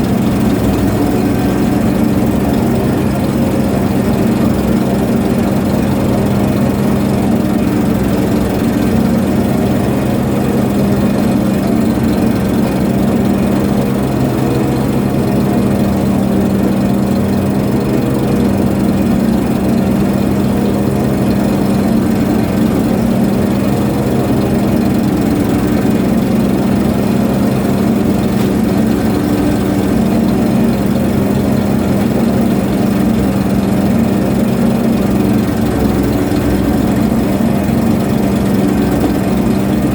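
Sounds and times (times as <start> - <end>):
ship engine humming: 0.0 - 39.9.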